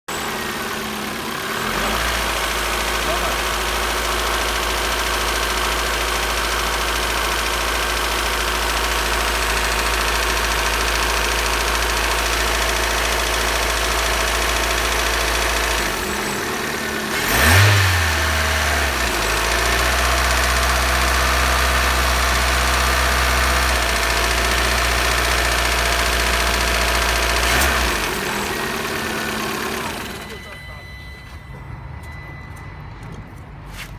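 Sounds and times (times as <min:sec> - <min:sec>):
engine revving: 0:00.1 - 0:31.2
car engine idling with knock: 0:00.1 - 0:33.4.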